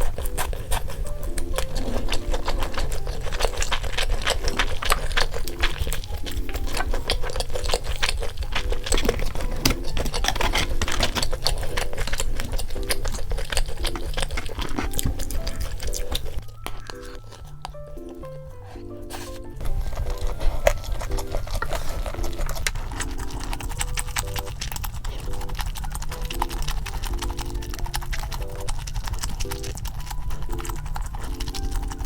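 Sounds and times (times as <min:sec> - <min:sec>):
crunching fried chicken: 0:00.0 - 0:32.0
light cute background music: 0:00.0 - 0:32.0.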